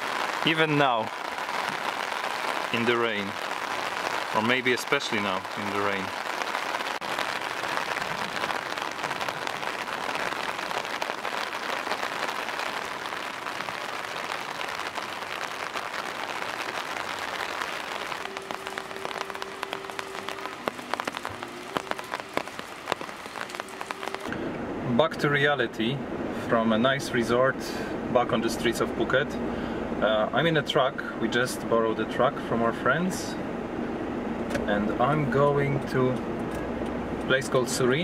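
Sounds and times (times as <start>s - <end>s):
steady rain falling: 0.0s - 32.3s.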